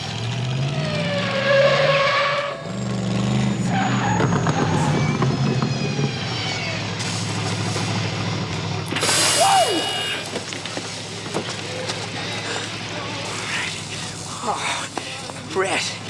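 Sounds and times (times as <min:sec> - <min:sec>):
car engine revving: 0:00.0 - 0:14.7
tyres squealing: 0:00.7 - 0:16.0.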